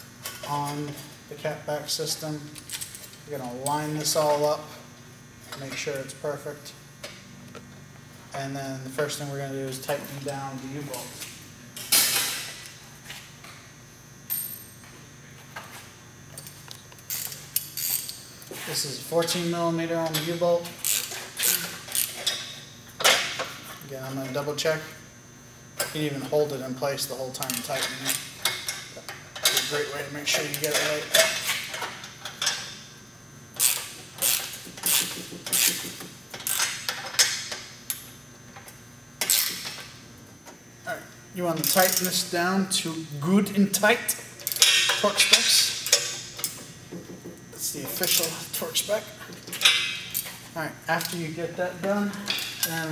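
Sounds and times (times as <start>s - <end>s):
faint shop hum: 0.0s - 52.9s.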